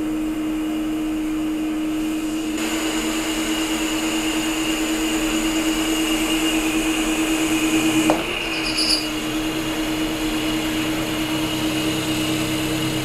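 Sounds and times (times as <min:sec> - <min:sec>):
lathe drive hum and whine: 0:00.0 - 0:13.0
cutting tool hiss: 0:01.9 - 0:13.0.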